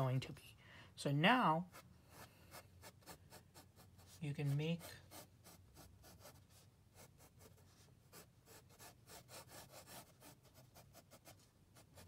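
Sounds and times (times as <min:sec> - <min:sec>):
pencil scratching on paper: 0:01.5 - 0:12.0.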